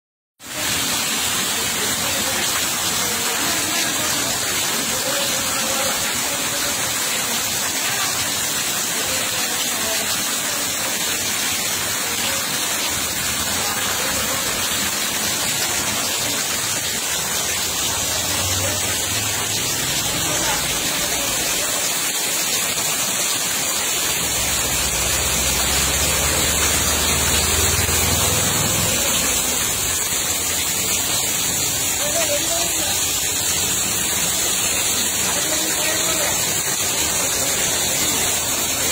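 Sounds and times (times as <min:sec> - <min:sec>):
water rushing past concrete: 0:00.4 - 0:38.9.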